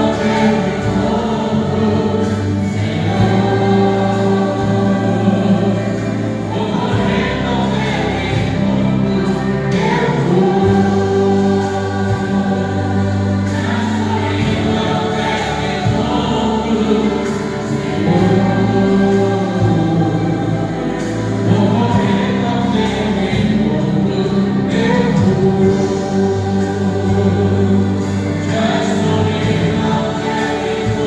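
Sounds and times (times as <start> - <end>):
vocal group singing gospel: 0.0 - 31.0.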